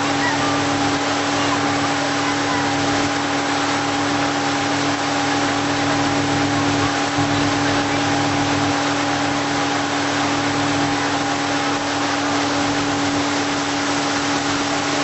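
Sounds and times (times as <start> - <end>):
boat engine humming: 0.0 - 15.0
rushing water: 0.0 - 15.0
wind: 0.0 - 15.0.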